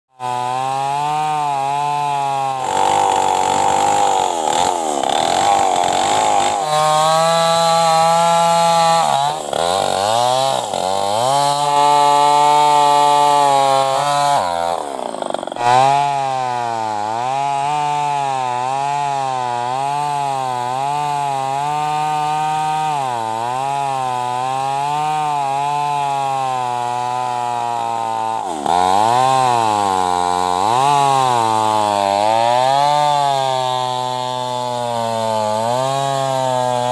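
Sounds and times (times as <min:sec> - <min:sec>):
chainsaw running at high revs: 0:00.1 - 0:36.9.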